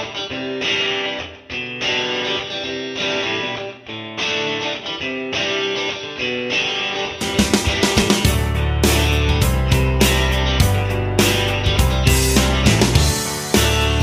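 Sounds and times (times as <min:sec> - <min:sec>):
guitar background music: 0:00.0 - 0:14.0.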